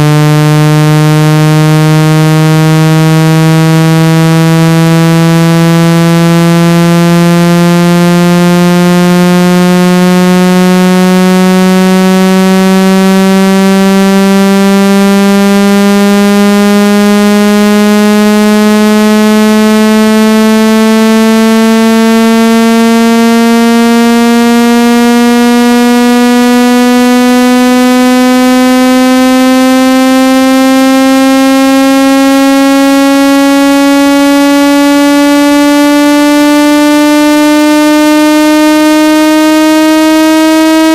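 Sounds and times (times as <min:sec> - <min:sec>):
buzzy synthesized tone sliding upward: 0:00.0 - 0:40.9.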